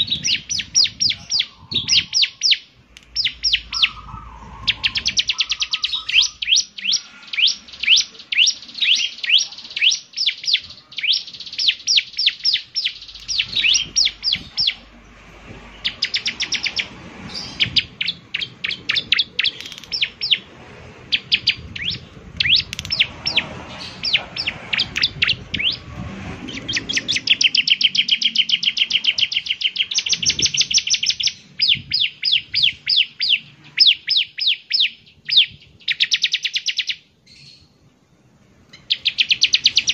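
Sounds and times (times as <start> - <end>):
bird singing high sharp notes: 0.0 - 14.9, 15.7 - 20.5, 21.1 - 25.9, 26.5 - 37.7, 38.7 - 39.9.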